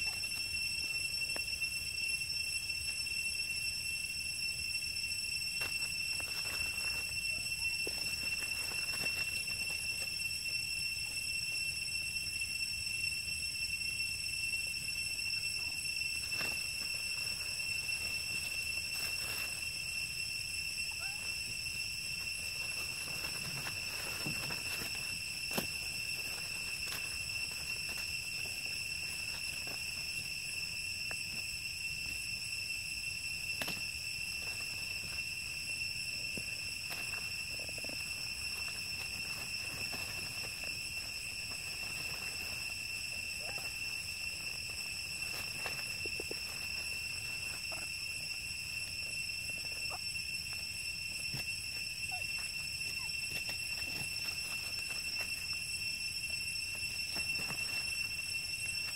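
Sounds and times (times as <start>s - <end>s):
high-pitched insect drone: 0.0s - 58.9s
monkeys rustling in dry leaves: 5.4s - 11.8s, 14.6s - 58.9s.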